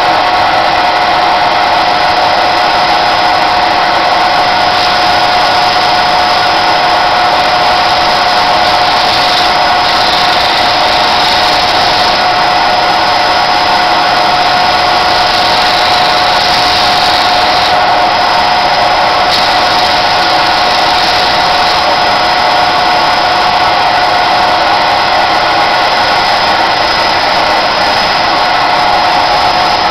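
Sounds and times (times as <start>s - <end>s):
electric sanding disc whine: 1.2s - 29.9s.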